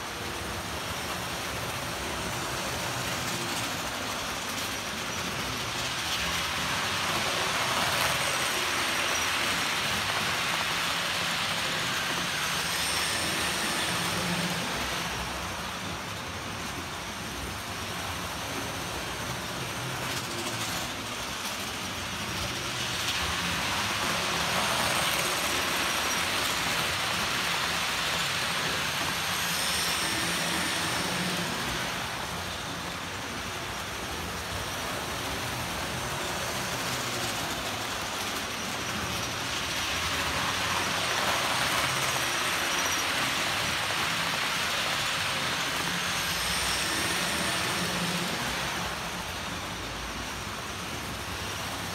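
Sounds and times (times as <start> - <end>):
model trains rattling whir: 0.0 - 51.9.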